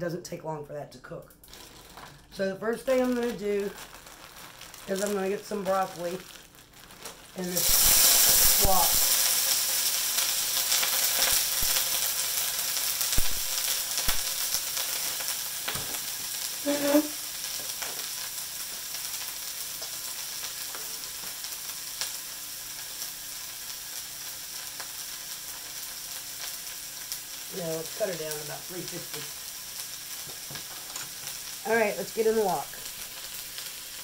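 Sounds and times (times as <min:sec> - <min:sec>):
broccoli sizzling in hot oil: 0:01.4 - 0:34.0.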